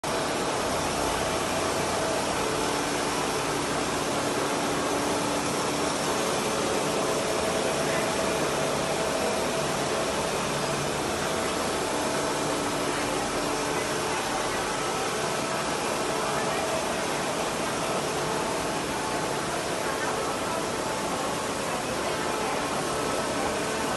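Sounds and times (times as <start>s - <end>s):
factory machinery whirring: 0.0s - 23.9s.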